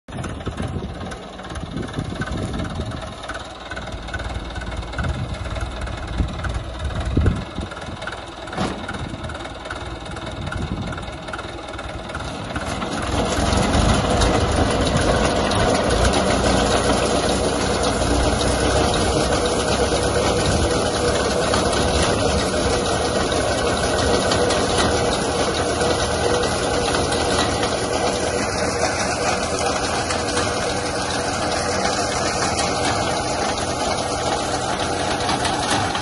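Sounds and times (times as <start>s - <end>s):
tractor diesel engine running: 0.1s - 36.0s.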